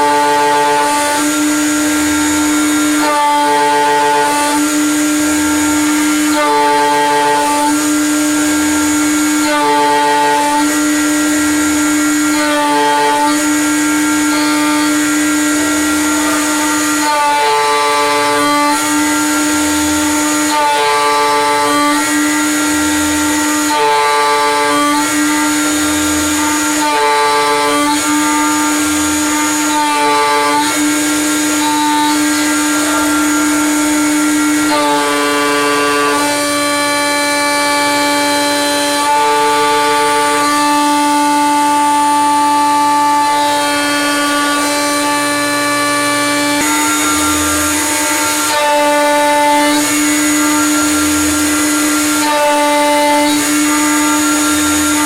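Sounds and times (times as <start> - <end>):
cutter milling metal: 0.0 - 55.0.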